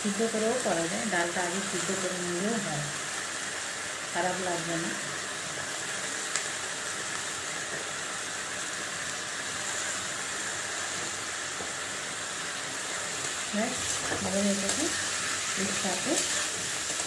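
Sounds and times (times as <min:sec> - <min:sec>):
vegetables frying in oil: 0:00.0 - 0:17.0.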